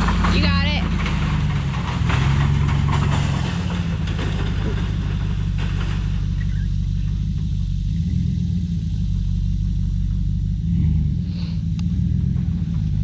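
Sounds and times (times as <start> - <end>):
pickup truck engine rumbling: 0.0 - 13.0.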